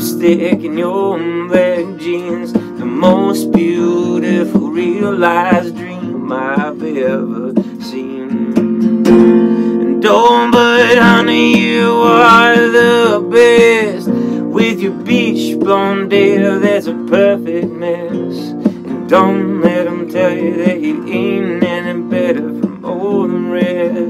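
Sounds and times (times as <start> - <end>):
acoustic guitar strumming: 0.0 - 24.0
man singing: 0.0 - 24.0.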